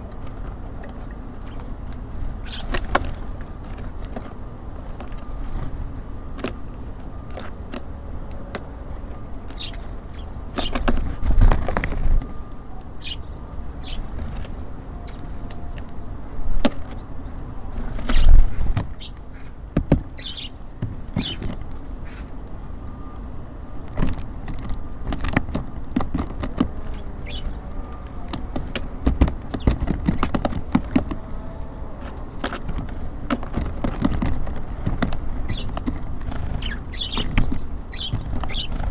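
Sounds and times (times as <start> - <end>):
birds pecking and landing: 0.0 - 38.9.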